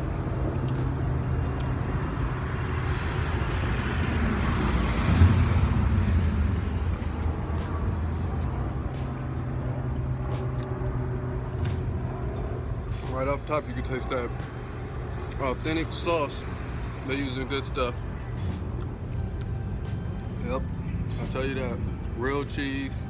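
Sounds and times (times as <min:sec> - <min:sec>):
traffic engine hum: 0:00.0 - 0:23.0
vehicle passing: 0:00.0 - 0:23.0.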